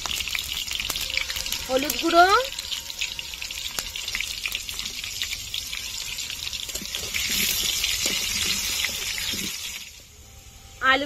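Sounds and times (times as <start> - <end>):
potatoes frying in hot oil: 0.0 - 10.2.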